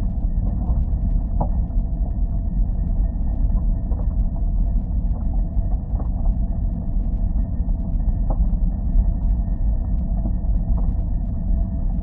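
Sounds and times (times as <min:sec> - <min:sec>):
continuous low rumble: 0:00.0 - 0:12.0.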